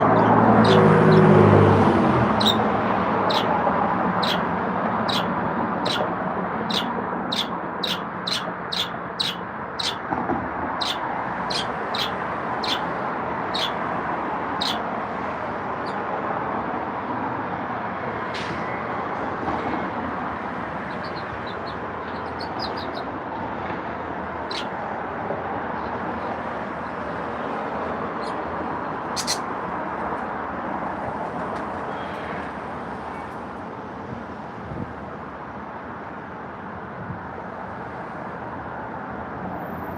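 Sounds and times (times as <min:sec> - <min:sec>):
steady background noise: 0:00.0 - 0:39.9.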